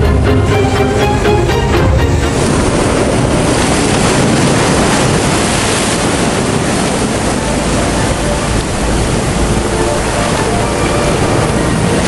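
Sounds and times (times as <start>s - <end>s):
rush of floodwater: 0.0s - 12.0s
wind buffeting microphone: 0.0s - 12.0s.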